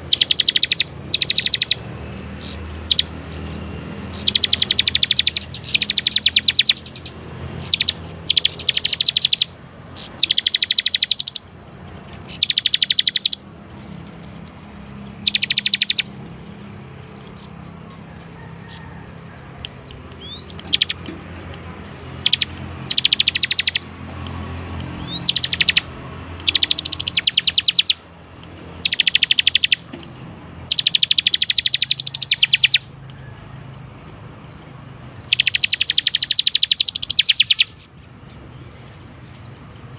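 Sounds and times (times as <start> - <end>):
bird singing rattling trills: 0.0 - 33.3, 34.9 - 39.9.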